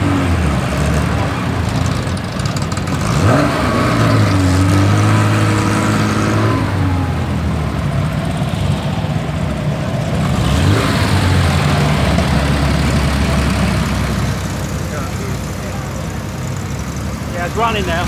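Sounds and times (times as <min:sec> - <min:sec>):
race car engines running: 0:00.0 - 0:18.0.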